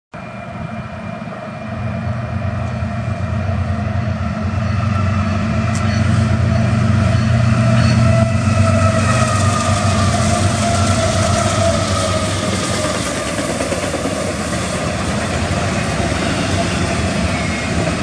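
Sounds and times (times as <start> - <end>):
freight locomotives passing: 0.1 - 18.0.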